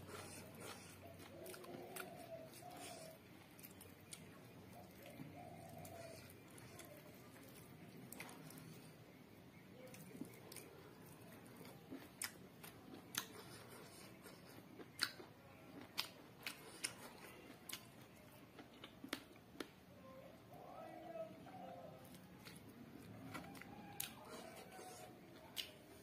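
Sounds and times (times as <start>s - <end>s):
chewing with wet mouth clicks: 0.0s - 8.9s, 9.8s - 19.8s, 22.0s - 26.0s.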